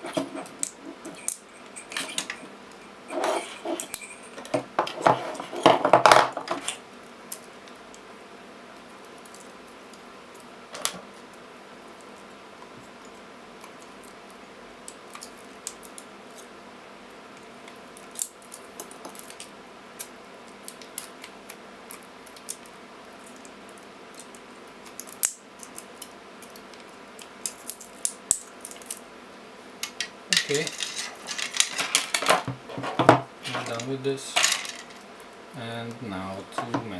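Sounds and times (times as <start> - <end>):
faint hum: 0.0 - 36.9.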